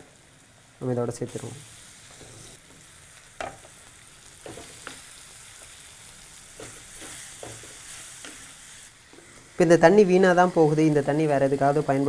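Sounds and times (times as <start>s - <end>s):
soft sizzle in a pan: 0.0s - 12.0s.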